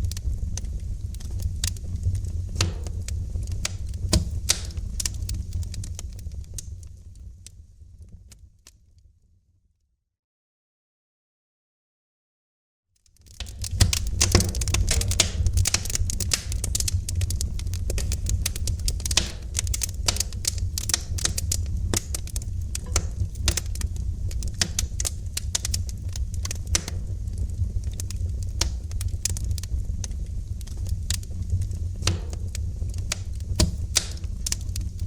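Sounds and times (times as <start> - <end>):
wood fire crackling and popping: 0.0 - 8.8, 13.0 - 35.0.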